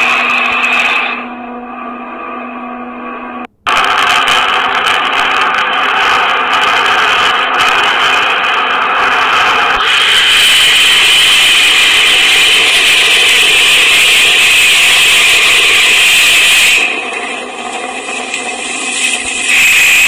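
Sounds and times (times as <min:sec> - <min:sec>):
rocket engine firing: 0:03.4 - 0:20.0.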